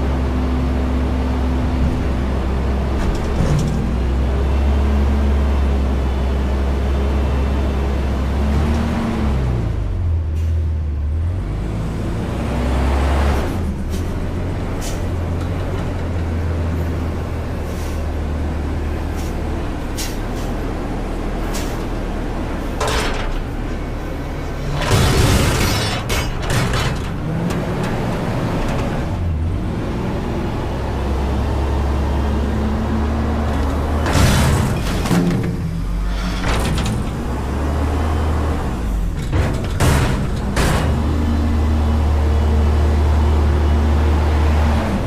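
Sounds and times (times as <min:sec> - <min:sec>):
garbage truck diesel engine: 0:00.0 - 0:45.0.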